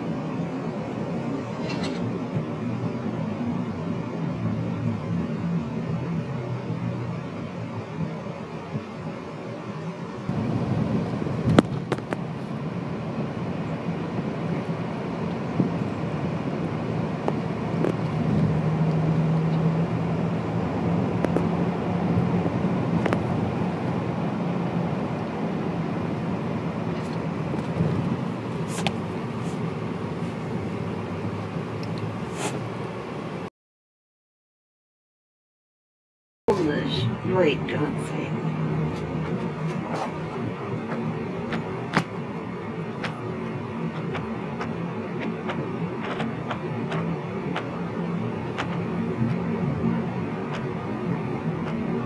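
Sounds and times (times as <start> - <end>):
car engine hum: 0.0 - 33.5, 36.5 - 52.0
road noise: 0.0 - 33.5, 36.5 - 52.0.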